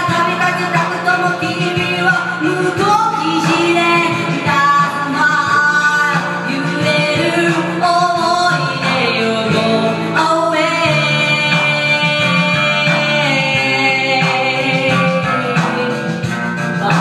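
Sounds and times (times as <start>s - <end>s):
backing track with guitar: 0.0s - 17.0s
man singing into microphone: 0.0s - 17.0s
woman singing into microphone: 0.0s - 17.0s.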